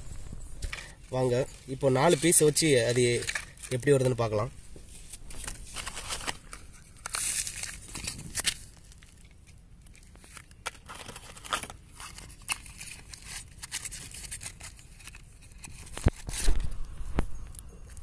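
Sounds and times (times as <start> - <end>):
packet crinkling: 0.6 - 4.5, 5.1 - 17.2.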